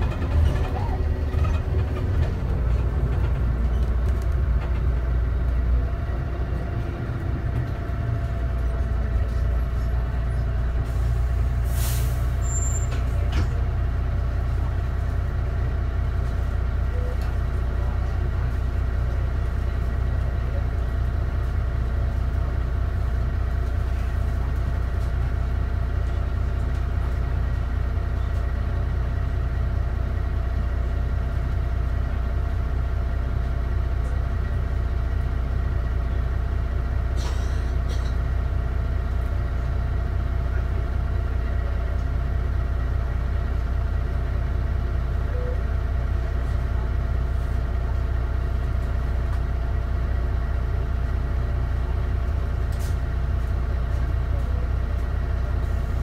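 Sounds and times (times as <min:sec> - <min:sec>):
diesel bus engine idling: 0:00.0 - 0:56.0.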